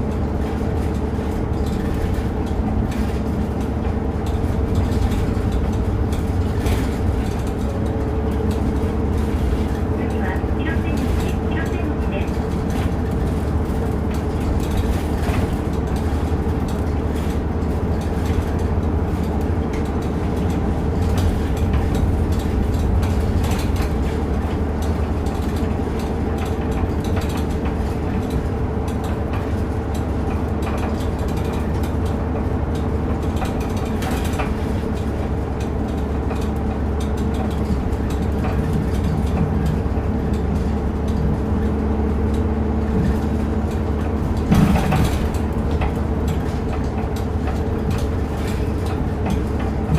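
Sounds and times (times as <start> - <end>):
bus engine drone: 0.0 - 49.9
constant hum: 0.0 - 49.9
road noise: 0.0 - 49.9.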